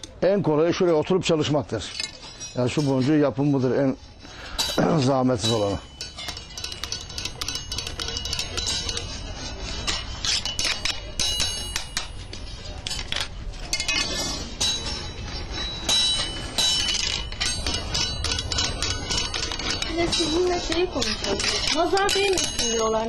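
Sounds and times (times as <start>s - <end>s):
iron tools clinking against metal: 0.0s - 23.0s.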